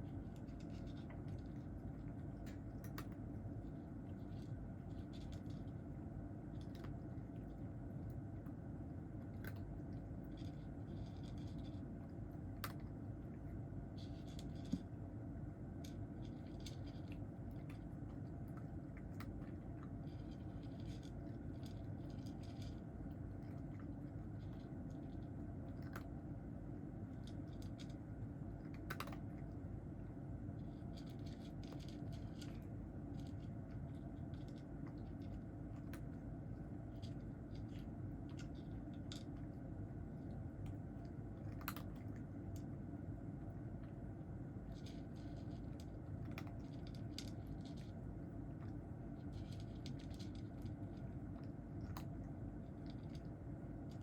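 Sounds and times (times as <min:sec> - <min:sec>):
cat chewing dry kibble: 0:00.0 - 0:54.0.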